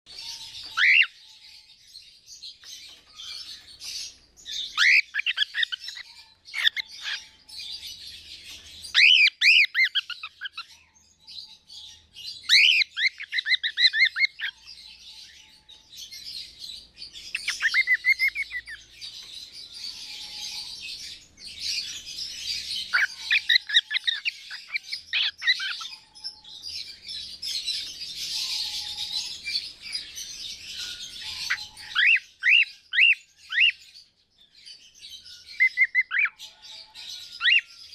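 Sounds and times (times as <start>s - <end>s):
high chatter of parrot calls: 0.1s - 1.2s, 2.8s - 10.8s, 11.5s - 15.6s, 17.2s - 33.9s, 35.3s - 37.9s
parrots chirping and squawking: 0.1s - 34.1s, 34.7s - 37.9s.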